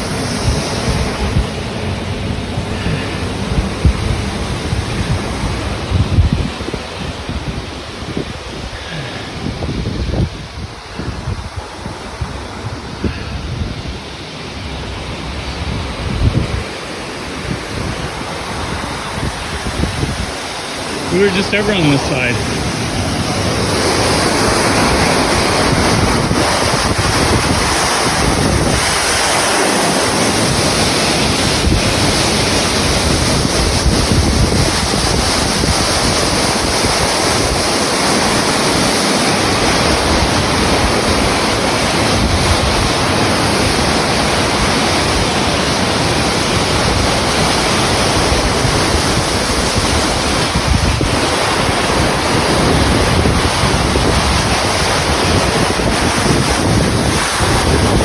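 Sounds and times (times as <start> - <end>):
water rushing: 0.0 - 58.0
wind buffeting microphone: 0.0 - 58.0.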